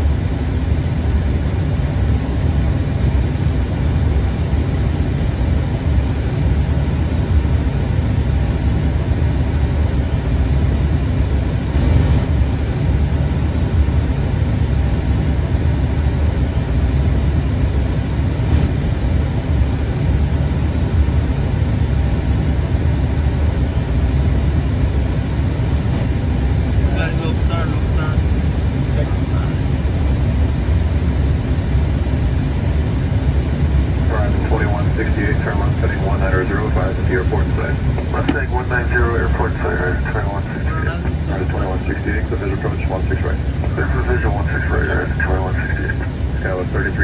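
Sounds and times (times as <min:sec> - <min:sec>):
aircraft cockpit rumble: 0:00.0 - 0:47.0.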